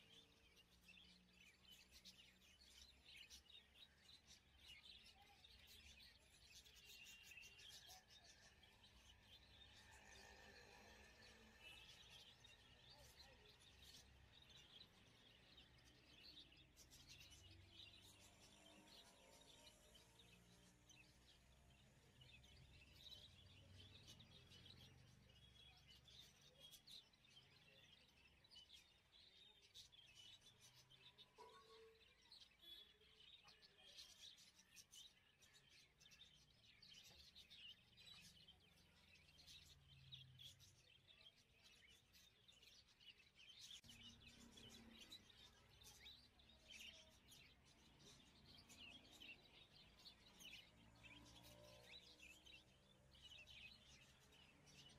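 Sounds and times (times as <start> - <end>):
faint high chirps: 0.0 - 54.9.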